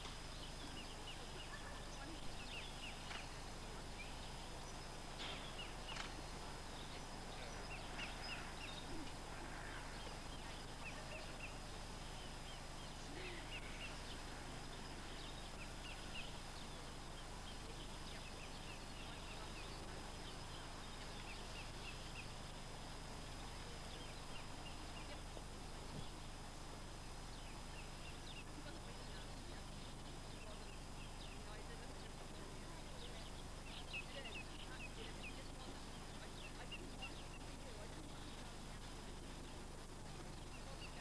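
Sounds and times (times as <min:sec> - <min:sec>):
low hum and hiss: 0:00.0 - 0:41.0
small birds chirping: 0:00.0 - 0:41.0.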